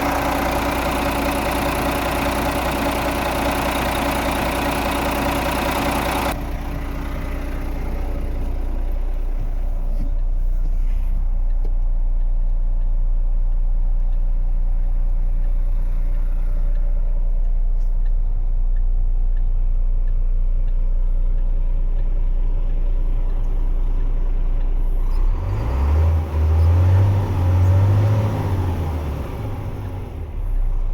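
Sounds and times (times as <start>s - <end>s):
diesel truck engine idling: 0.0s - 30.9s.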